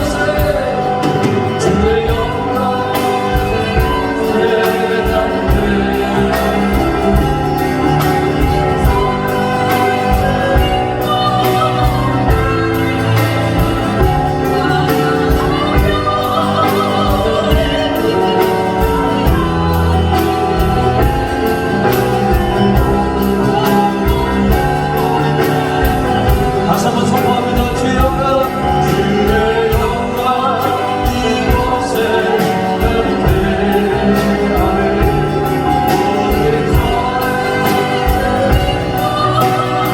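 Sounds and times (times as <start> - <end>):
band with steady beat: 0.0 - 39.9
choir singing worship music: 0.0 - 39.9.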